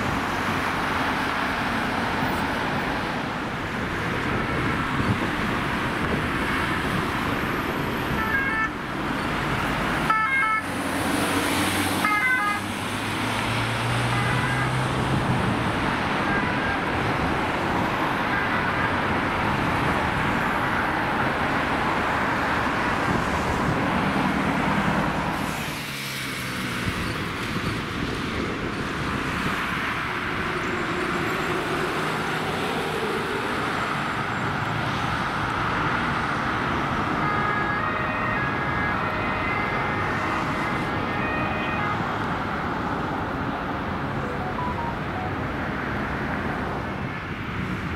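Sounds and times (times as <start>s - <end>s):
traffic engine and tyre noise: 0.0s - 47.9s.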